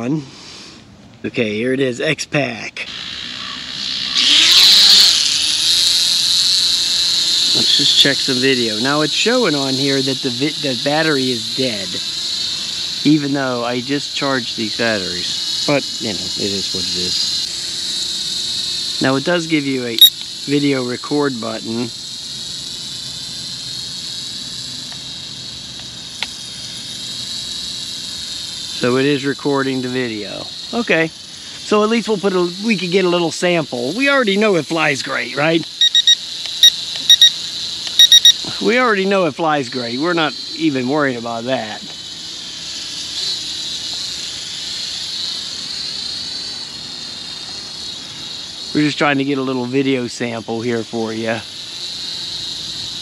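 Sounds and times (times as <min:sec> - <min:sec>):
drone motors whining: 0:02.8 - 0:53.0.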